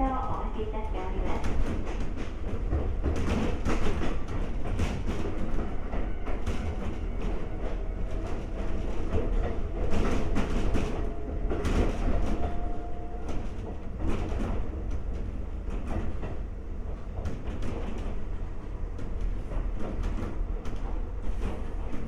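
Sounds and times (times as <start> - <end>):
electric railcar rumble: 0.0 - 22.0.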